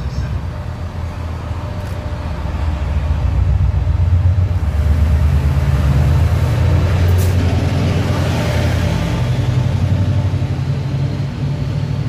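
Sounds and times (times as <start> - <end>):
locomotive engine drone: 0.0 - 12.0
train wheel rumble: 0.0 - 12.0.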